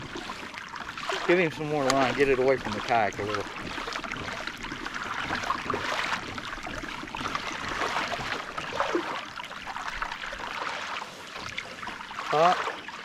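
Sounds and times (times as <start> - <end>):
water splashing against kayak hull: 0.0 - 13.0.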